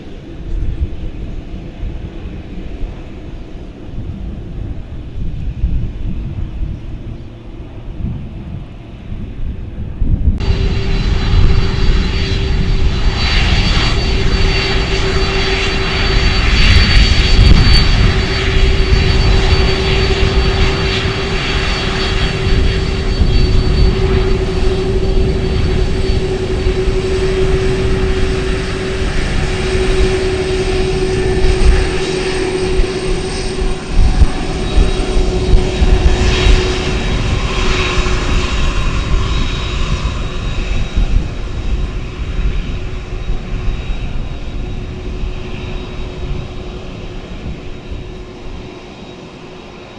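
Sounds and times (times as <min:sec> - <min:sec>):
airplane engines droning: 0:00.0 - 0:49.9
high engine whine: 0:00.0 - 0:49.9.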